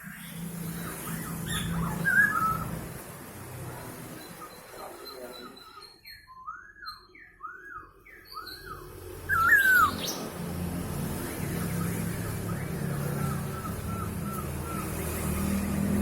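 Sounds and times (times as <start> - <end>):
bird whistling song: 0.0 - 2.8, 4.2 - 10.3, 11.5 - 15.9.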